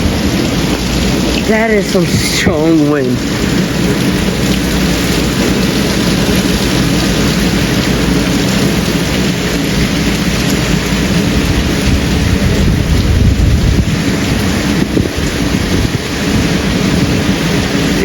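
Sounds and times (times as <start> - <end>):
gusting wind on microphone: 0.0 - 18.0
heavy rain pouring: 0.0 - 18.0.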